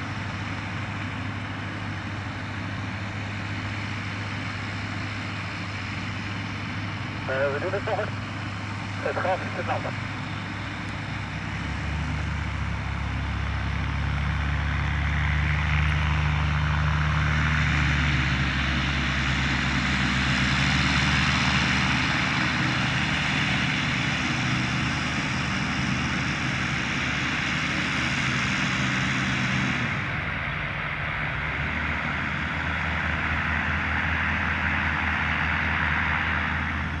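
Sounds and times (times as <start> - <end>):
light aircraft engine and propeller: 0.0 - 37.0.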